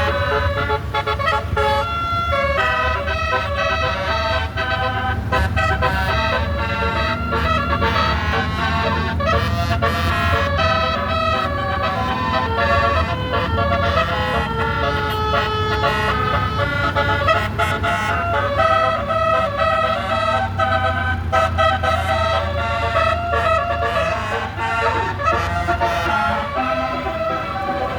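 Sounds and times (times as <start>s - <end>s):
low engine rumble: 0.0s - 27.9s
multi-tone musical air horn: 0.0s - 27.9s.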